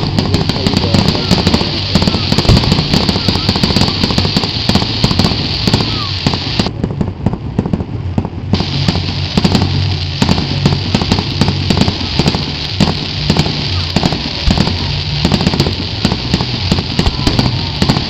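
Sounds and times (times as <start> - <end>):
hiss of burning sparks: 0.0 - 6.8, 8.5 - 18.0
fireworks popping and banging: 0.0 - 18.0.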